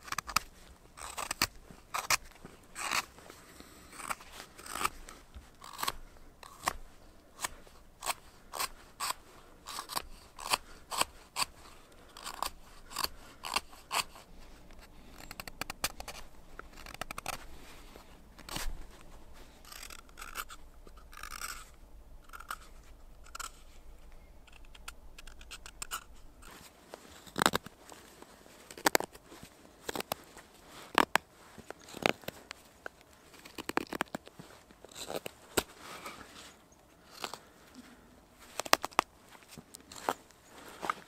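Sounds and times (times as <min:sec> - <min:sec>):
knife shaving wood: 0:00.0 - 0:23.9, 0:24.5 - 0:41.0.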